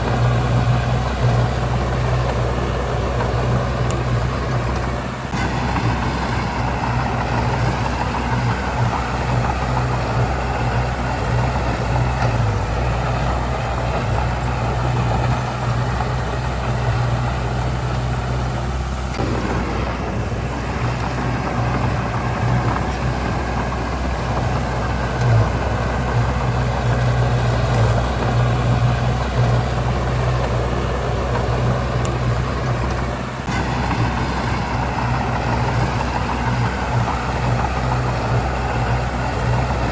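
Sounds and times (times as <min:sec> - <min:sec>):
heavy diesel engine drone: 0:00.0 - 0:39.9.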